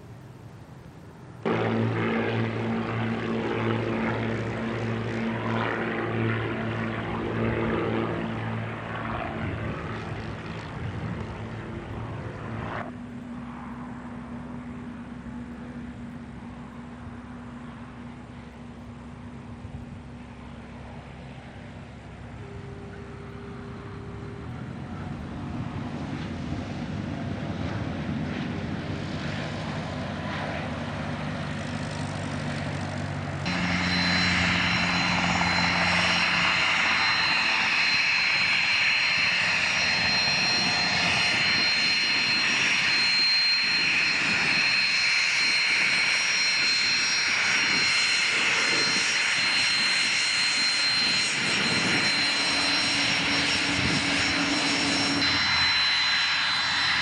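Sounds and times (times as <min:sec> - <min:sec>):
jet engine whine: 0:00.0 - 0:57.0
jet engines rumbling: 0:00.0 - 0:57.0.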